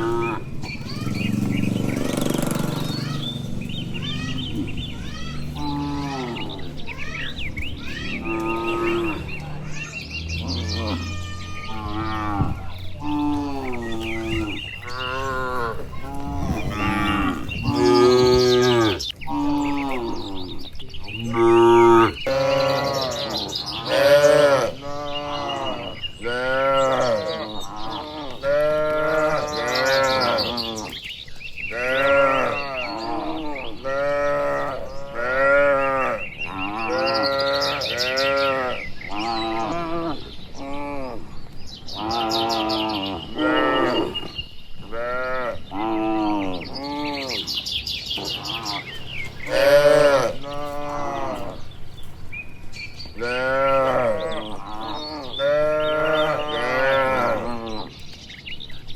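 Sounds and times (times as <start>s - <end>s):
cattle mooing: 0.0s - 31.0s, 31.7s - 47.6s, 48.2s - 51.7s, 53.2s - 57.9s.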